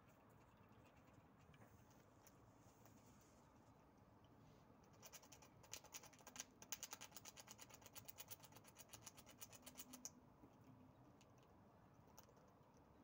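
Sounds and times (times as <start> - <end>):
squirrel gnawing and chewing: 0.0 - 13.0.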